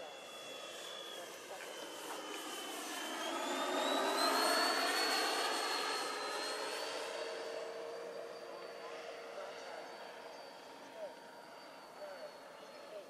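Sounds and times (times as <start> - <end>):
model jet fans whining: 0.0 - 13.0.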